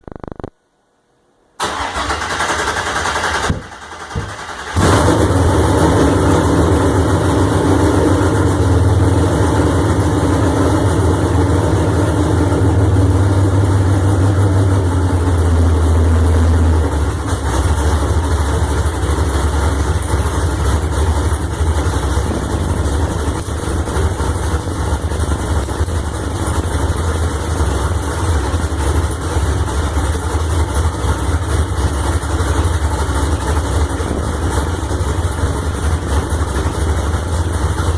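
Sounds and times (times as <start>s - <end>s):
engine idling: 1.6s - 37.9s.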